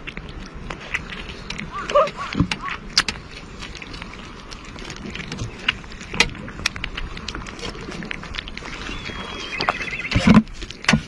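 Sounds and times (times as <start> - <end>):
cats chewing wet smacks: 0.0 - 11.0.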